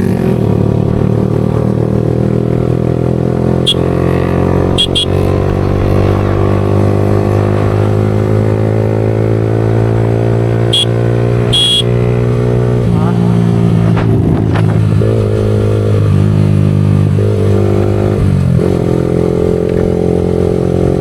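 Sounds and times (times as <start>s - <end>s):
motorcycle engine drone: 0.0s - 21.0s.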